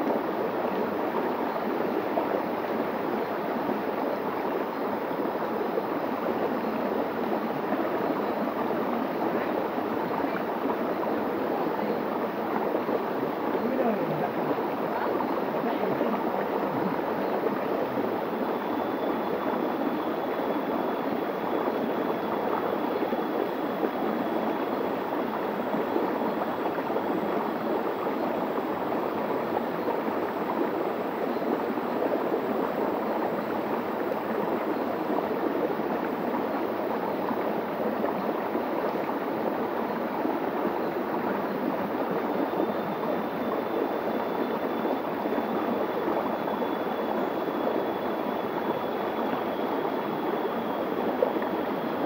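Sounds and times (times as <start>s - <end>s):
stream gurgling over rocks: 0.0s - 52.0s.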